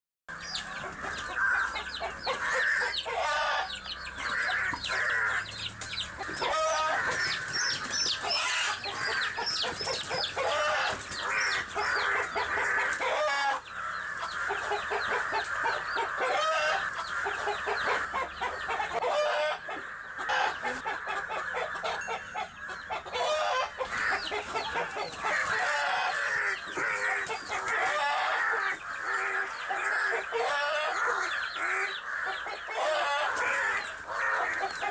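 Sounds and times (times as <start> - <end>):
chickens squawking and cackling: 0.3 - 34.9.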